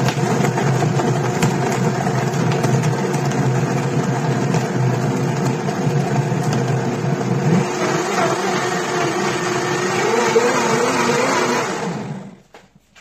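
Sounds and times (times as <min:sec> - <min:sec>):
blender running: 0:00.0 - 0:12.4.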